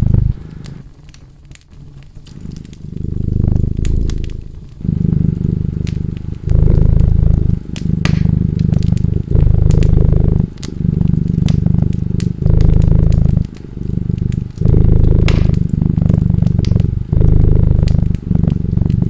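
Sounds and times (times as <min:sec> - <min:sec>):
cat purring loudly: 0:00.0 - 0:01.1, 0:01.8 - 0:19.0
wood fire crackling and popping: 0:00.0 - 0:19.0.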